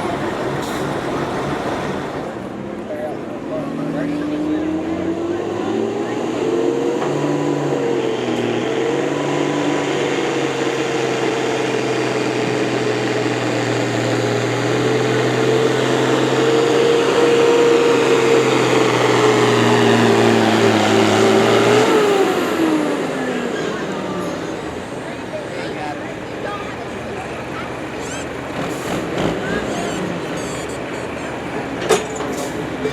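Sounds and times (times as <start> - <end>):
engine revving at full throttle: 3.6 - 30.6.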